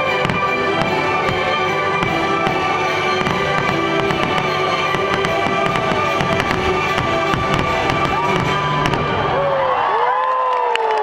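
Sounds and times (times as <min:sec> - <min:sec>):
fireworks bursting and crackling: 0:00.0 - 0:09.9
loud music: 0:00.0 - 0:10.0.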